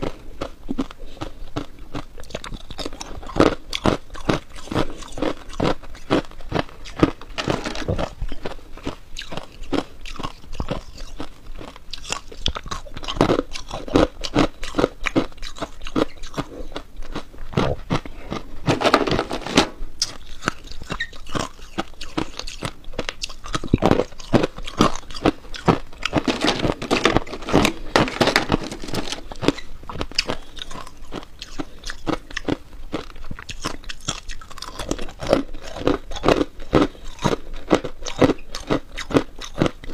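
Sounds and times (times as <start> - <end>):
ice crunching while chewed: 0.0 - 18.8, 20.0 - 39.9.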